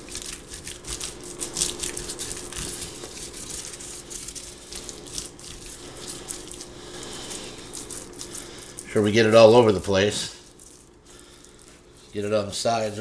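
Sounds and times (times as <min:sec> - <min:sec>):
wet squishing and smearing: 0:00.0 - 0:12.2.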